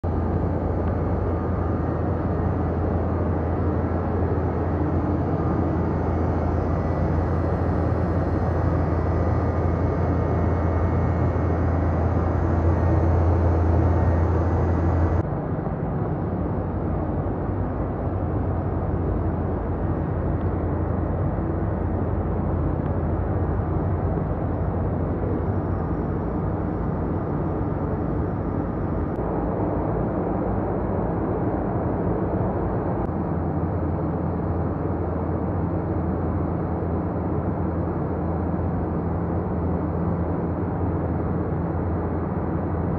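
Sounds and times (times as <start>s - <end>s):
engine room machinery drone: 0.0s - 42.9s.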